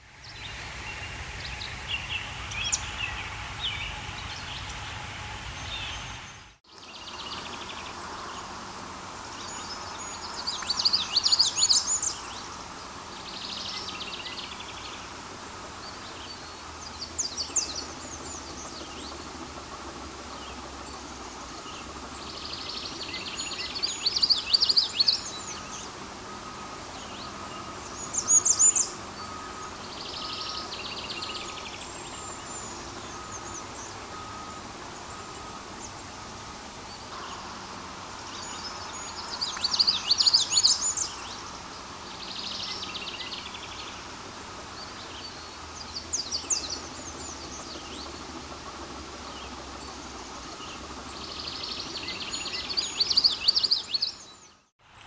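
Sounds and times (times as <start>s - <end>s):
bird singing: 0.0s - 5.0s, 5.6s - 8.6s, 9.3s - 37.5s, 38.3s - 44.0s, 44.6s - 54.7s.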